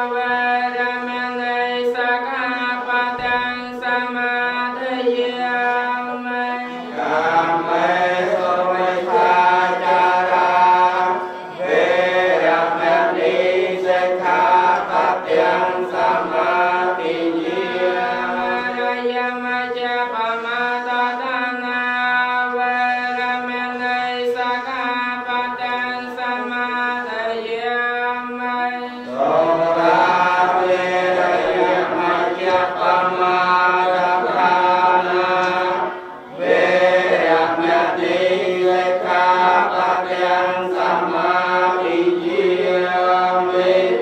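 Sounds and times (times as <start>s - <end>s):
monks chanting: 0.0s - 44.0s.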